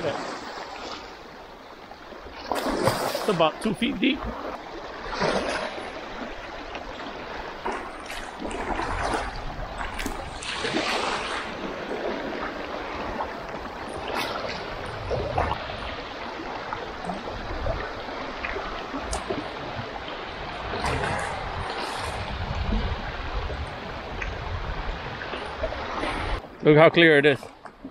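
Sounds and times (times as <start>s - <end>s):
small waves washing over rocks: 0.0s - 26.4s.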